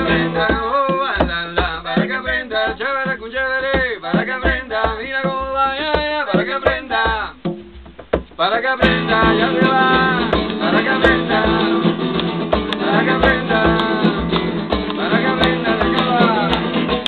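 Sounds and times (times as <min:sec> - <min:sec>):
hand drum beat: 0:00.0 - 0:17.0
man singing: 0:00.0 - 0:17.0
strummed acoustic guitar: 0:00.0 - 0:17.0.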